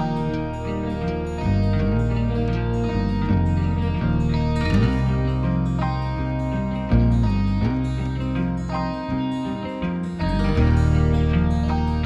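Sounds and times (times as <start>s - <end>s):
plucked guitar: 0.0s - 12.0s
steady bass line: 0.0s - 12.0s.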